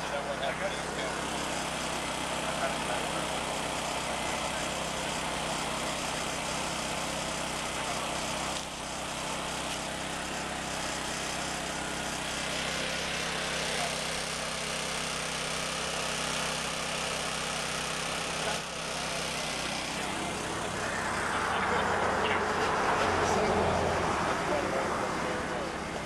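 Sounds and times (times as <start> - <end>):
generator engine running: 0.0 - 26.0.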